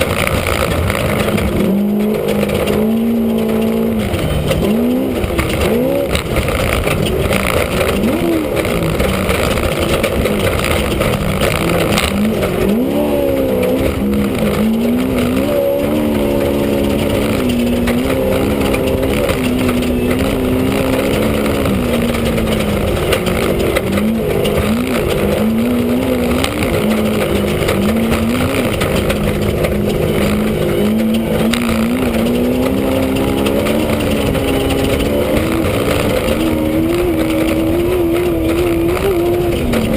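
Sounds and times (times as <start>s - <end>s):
engine revving from inside cabin: 0.0s - 39.9s.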